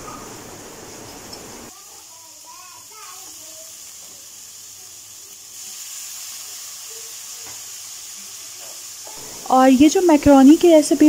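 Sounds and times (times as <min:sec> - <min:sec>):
chicken sizzling in a wok: 0:00.0 - 0:11.0
water hissing into steam: 0:00.0 - 0:11.0.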